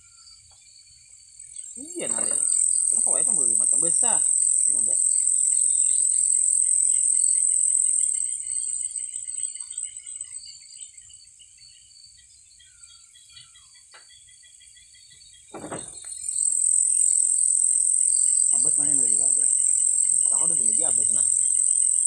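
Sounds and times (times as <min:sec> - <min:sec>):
insects droning: 0:00.0 - 0:22.0
soft insect chirping: 0:00.0 - 0:22.0.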